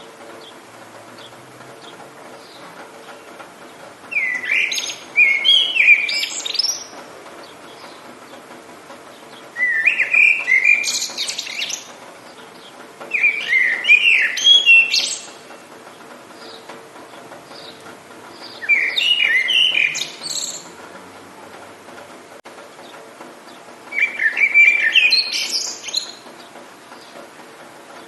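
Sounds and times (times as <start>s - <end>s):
rain hiss: 0.0s - 28.0s
songbird singing: 0.0s - 28.0s.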